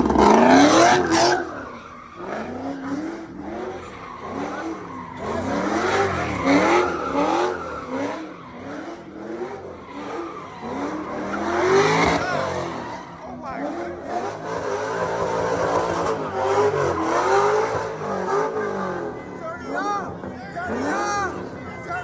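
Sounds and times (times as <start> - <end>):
car engine revving: 0.0 - 22.0
tyres skidding and squealing: 0.0 - 22.0.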